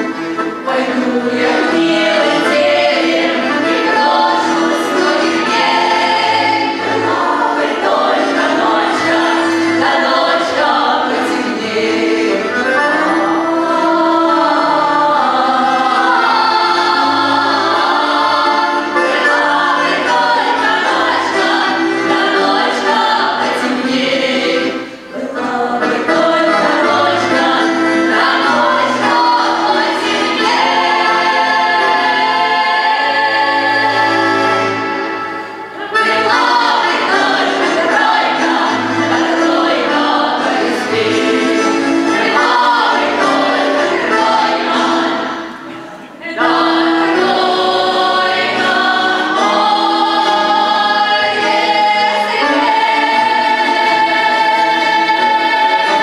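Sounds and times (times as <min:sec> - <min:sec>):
women singing in harmony: 0:00.0 - 0:56.0.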